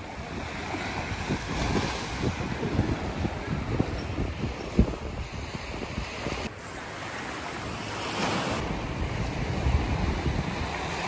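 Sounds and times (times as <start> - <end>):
sea waves washing on a beach: 0.0 - 11.0
wind buffeting microphone: 0.0 - 11.0.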